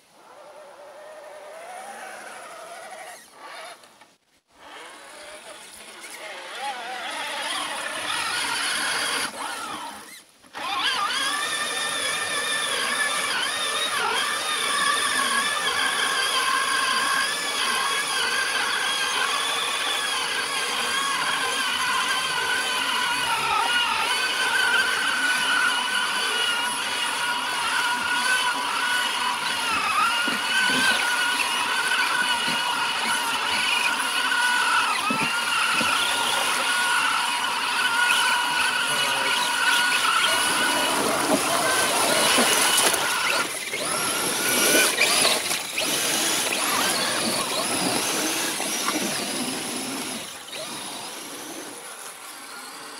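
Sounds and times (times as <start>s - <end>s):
high-pitched electric motor whine: 4.6s - 52.9s.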